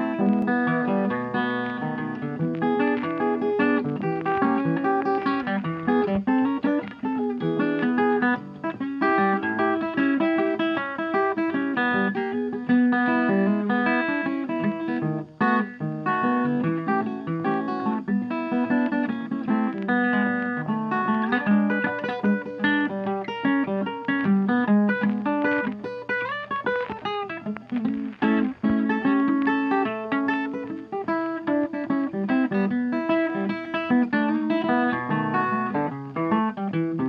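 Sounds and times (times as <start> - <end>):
plucked acoustic guitar melody: 0.0 - 37.0.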